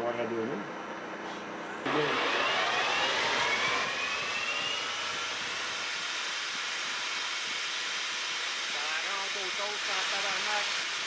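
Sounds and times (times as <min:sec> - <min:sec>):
lathe spindle whine: 0:01.9 - 0:11.0.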